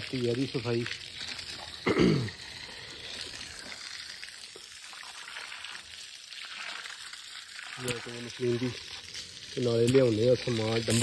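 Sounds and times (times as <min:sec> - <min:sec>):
water splashing on concrete floor: 0:00.0 - 0:11.0.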